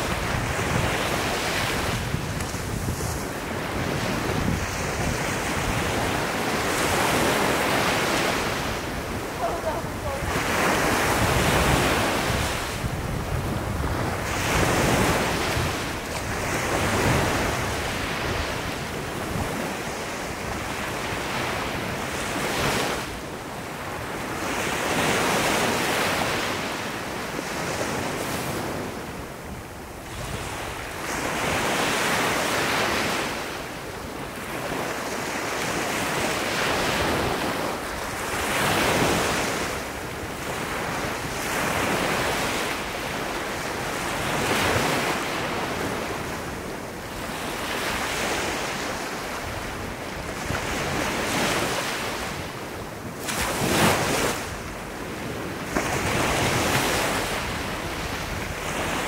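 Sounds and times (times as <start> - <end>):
small waves breaking on sand: 0.0 - 59.0.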